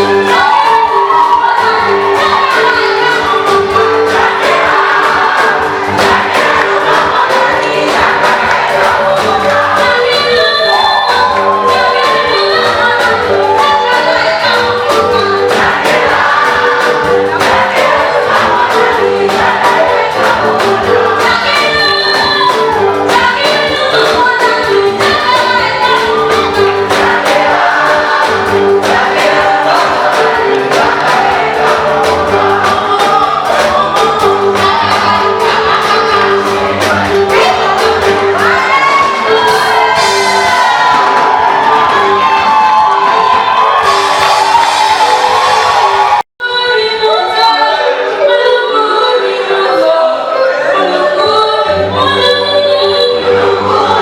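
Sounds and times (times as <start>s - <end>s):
bass line: 0.0s - 46.2s
choir singing gospel: 0.0s - 46.2s, 47.0s - 54.0s
drums steady beat: 0.0s - 46.2s.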